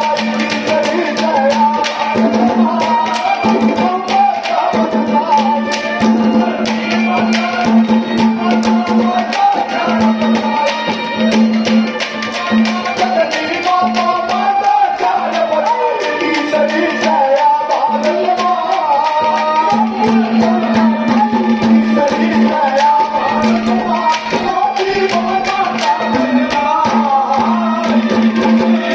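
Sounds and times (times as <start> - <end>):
folk melody: 0.0 - 28.9
hand drum strokes: 0.0 - 28.9.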